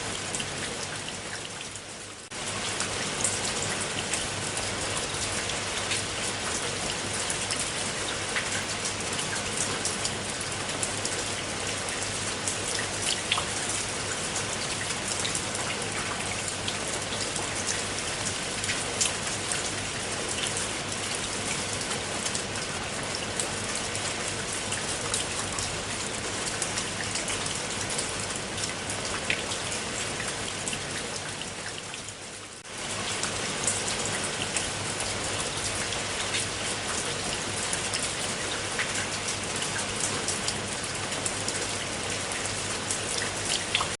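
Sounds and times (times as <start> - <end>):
rain pattering on surface: 0.0 - 44.0.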